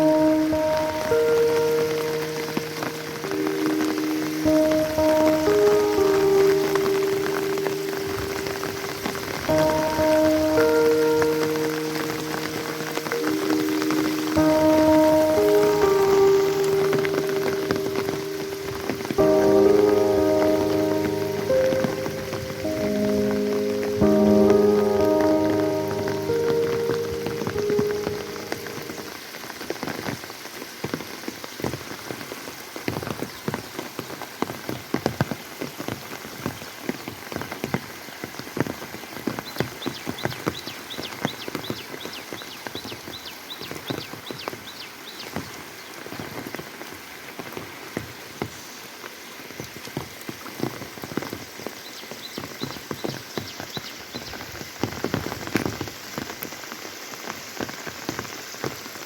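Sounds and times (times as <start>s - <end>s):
heavy rain splashing: 0.0s - 59.0s.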